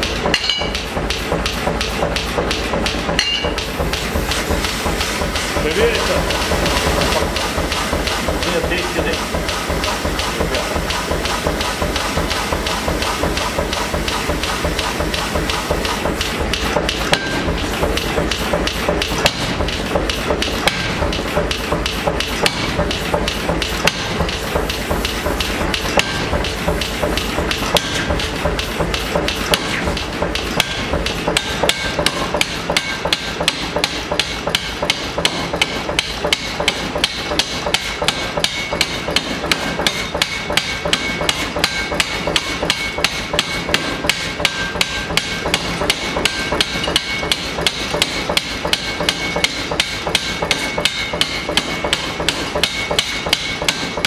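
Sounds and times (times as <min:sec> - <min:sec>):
power hammer metal blows: 0:00.0 - 0:54.0.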